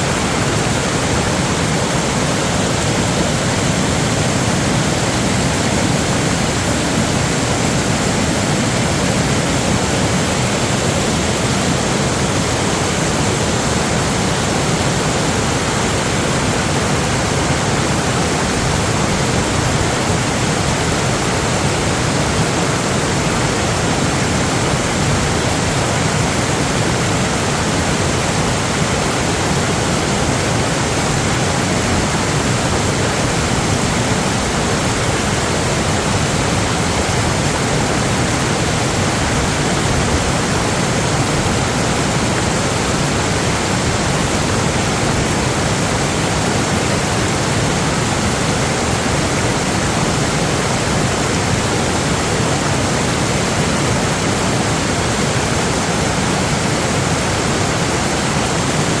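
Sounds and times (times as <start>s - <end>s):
rush of water: 0.0s - 59.0s.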